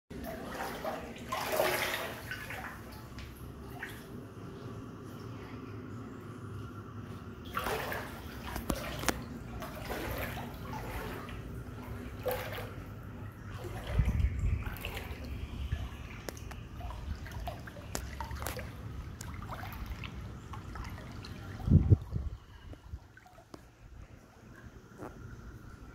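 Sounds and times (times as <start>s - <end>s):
floodwater sloshing and splashing: 0.1s - 25.9s.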